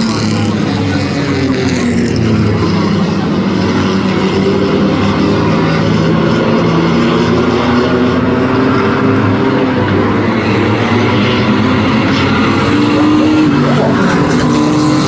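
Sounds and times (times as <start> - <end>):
racing truck engines droning: 0.0 - 15.0.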